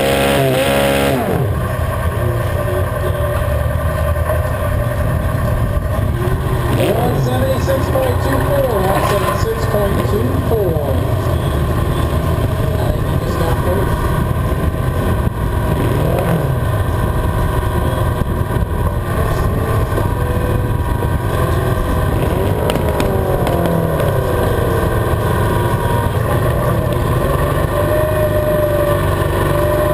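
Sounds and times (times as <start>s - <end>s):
tractor engine revving: 0.0s - 29.9s.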